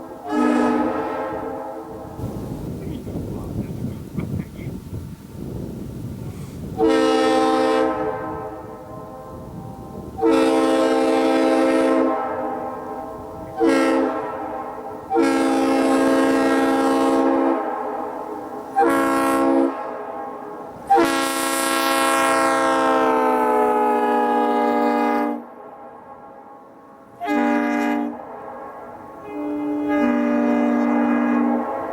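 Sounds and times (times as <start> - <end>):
train horn chord blasts: 0.0 - 2.6, 6.7 - 31.9.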